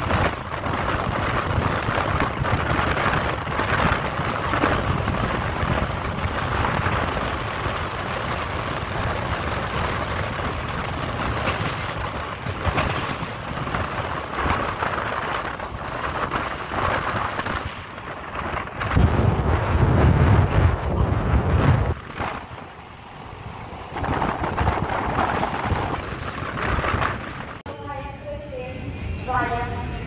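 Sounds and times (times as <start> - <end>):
wind buffeting microphone: 0.0 - 27.7
passenger train running: 0.0 - 30.0.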